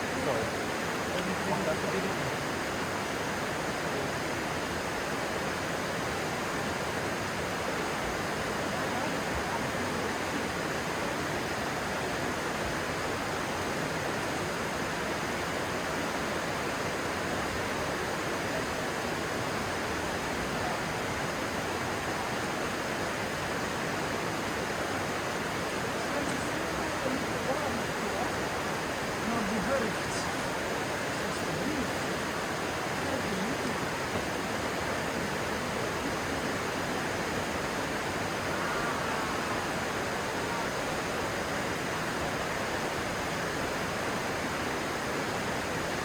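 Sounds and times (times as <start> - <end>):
stream water flowing: 0.0 - 46.0.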